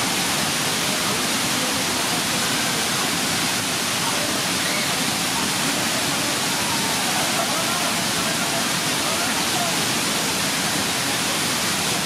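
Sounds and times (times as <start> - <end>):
whitewater rushing over rocks: 0.0 - 12.0.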